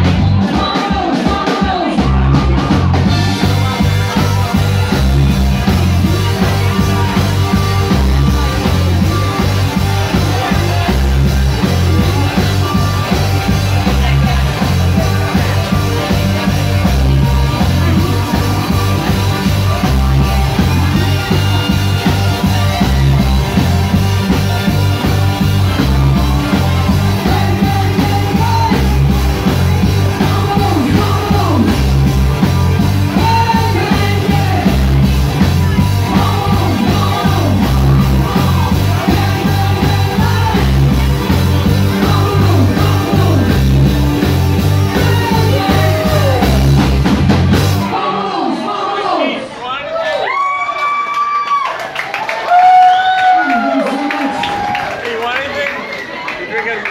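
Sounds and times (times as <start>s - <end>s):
repeating bass line: 0.0s - 0.8s, 1.9s - 48.4s
lead singer: 0.0s - 49.6s
live rock band: 0.0s - 49.6s, 50.8s - 56.9s.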